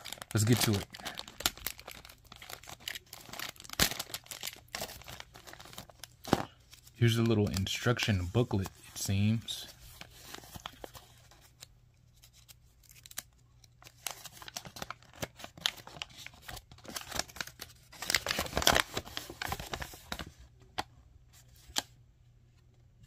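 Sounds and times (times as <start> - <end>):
paper rustling and crinkling: 0.0 - 20.5.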